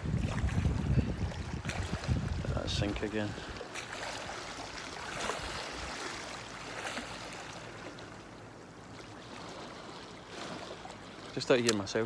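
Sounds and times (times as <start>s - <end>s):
small water splashes: 0.0s - 12.0s
water lapping against rocks: 0.0s - 12.0s.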